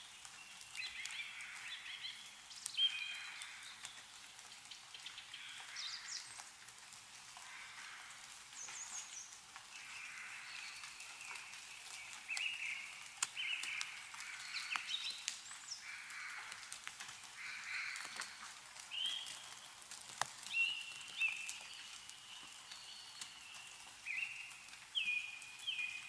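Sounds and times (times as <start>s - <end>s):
birds calling: 0.0s - 6.5s, 7.4s - 26.0s
meltwater dripping: 0.0s - 26.0s.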